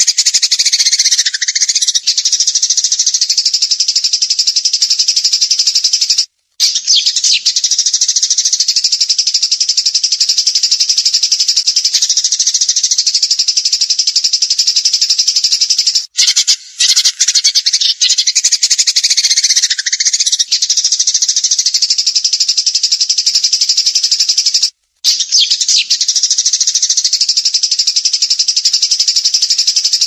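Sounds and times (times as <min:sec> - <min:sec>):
songbird rapid repeated notes: 0:00.0 - 0:30.0.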